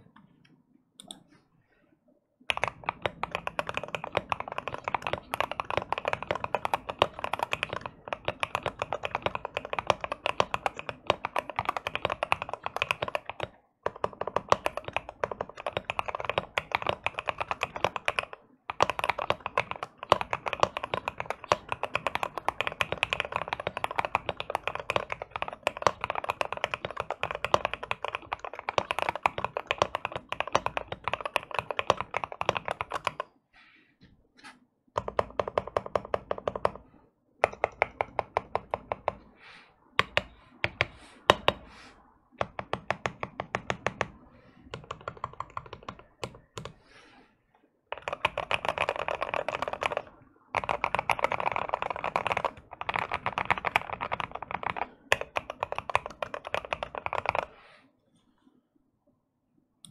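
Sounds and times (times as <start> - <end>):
mechanical keyboard typing: 2.5 - 33.3, 35.0 - 39.3, 39.9 - 41.7, 42.3 - 46.8, 47.9 - 57.6.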